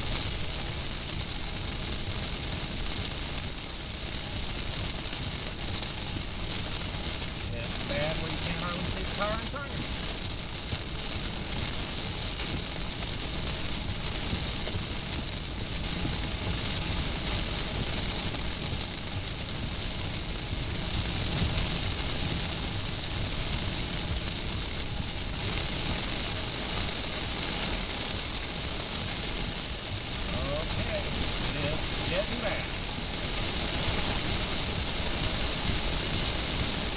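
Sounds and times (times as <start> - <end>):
heavy rain on car: 0.0 - 36.9.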